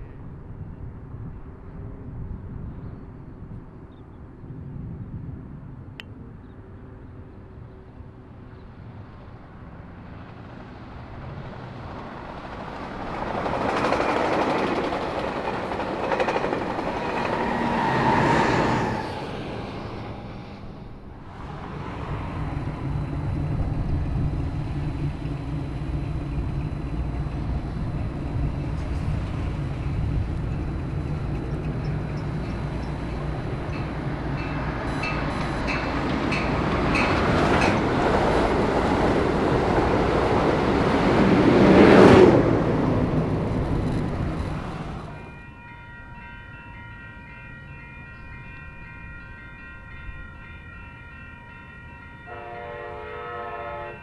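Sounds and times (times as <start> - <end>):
low rumble of train: 0.0 - 54.0
train passing at speed: 6.7 - 54.0.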